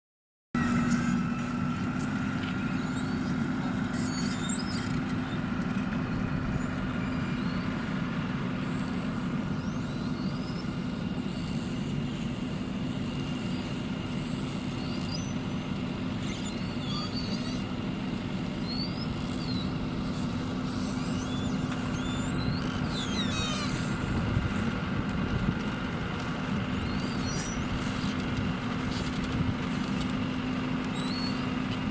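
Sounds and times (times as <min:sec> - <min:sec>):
heavy vehicle engine humming: 0:00.6 - 0:31.9.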